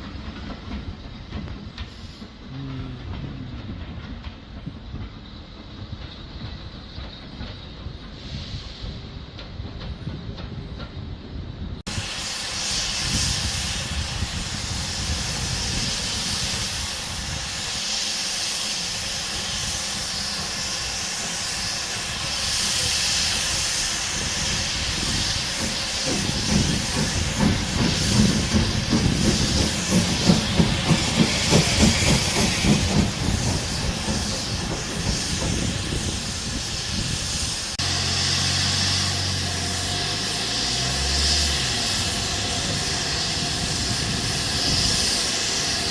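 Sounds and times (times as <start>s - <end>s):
rhythmic locomotive chuffing: 0.0s - 45.9s
steam locomotive hissing: 0.0s - 45.9s.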